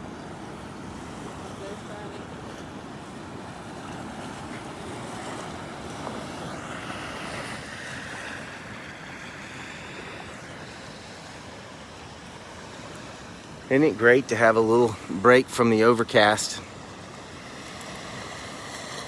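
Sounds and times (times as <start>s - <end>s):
small ocean waves breaking: 0.0s - 19.0s.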